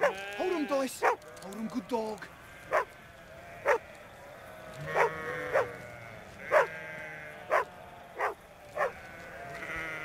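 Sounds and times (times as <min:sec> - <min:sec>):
sheep bleating: 0:00.0 - 0:10.0
sheep short sharp calls: 0:00.0 - 0:10.0.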